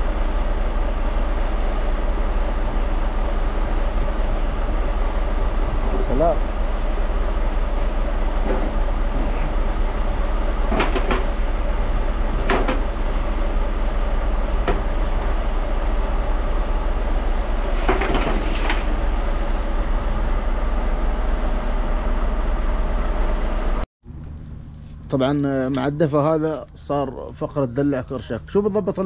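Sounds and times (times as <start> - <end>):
engine droning hum: 0.0 - 29.0.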